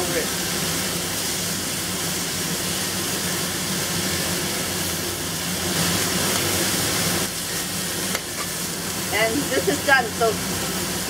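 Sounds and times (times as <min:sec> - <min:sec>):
food sizzling in hot oil: 0:00.0 - 0:11.0
low hum of gas burner: 0:00.0 - 0:11.0.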